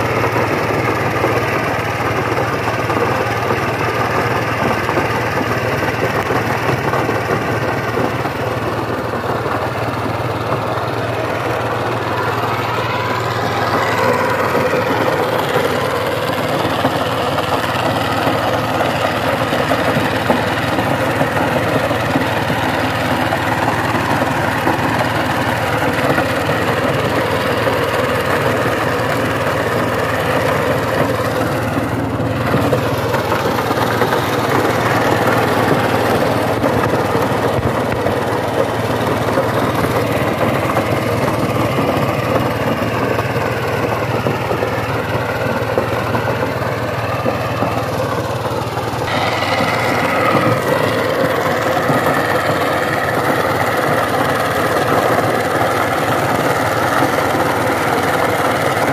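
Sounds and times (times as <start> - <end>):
diesel power tiller running: 0.0 - 58.9.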